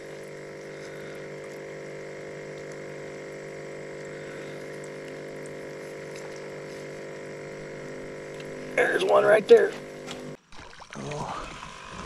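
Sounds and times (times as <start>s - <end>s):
small electric motor humming: 0.0s - 10.4s.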